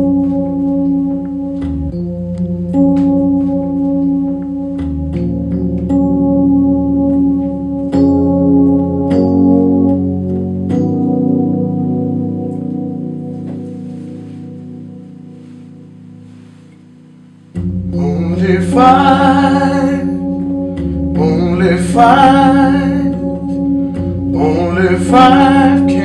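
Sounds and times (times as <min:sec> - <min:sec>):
keyboard playing organ-like chords: 0:00.0 - 0:26.0.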